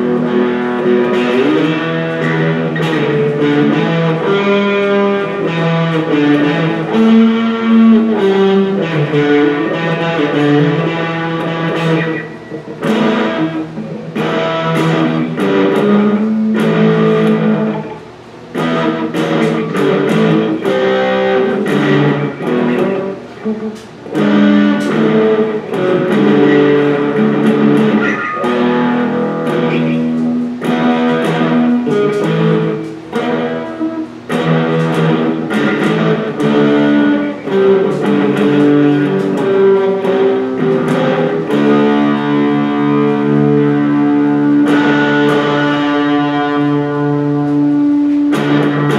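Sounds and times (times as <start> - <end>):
electric guitar strumming and picking: 0.0 - 48.9.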